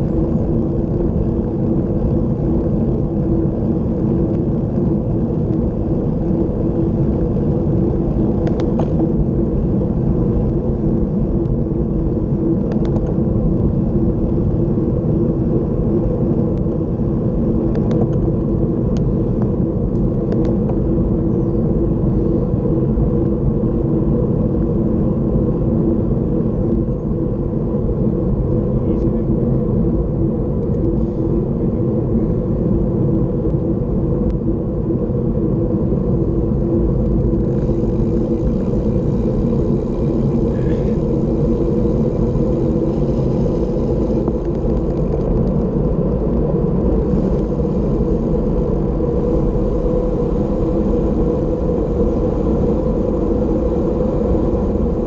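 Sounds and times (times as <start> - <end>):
vehicle road noise: 0.0 - 55.0
wind rumble on microphone: 0.0 - 55.0.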